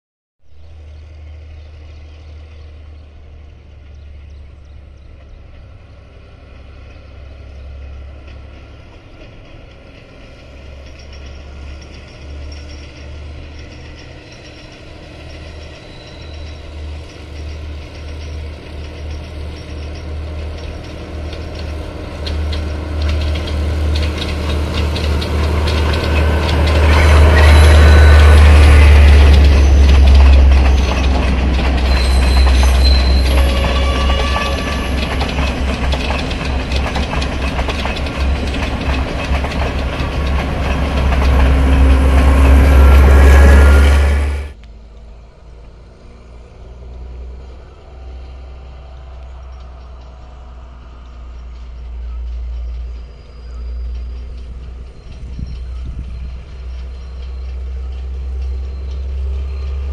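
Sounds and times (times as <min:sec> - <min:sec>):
diesel locomotive engine rumble: 0:00.5 - 0:59.9.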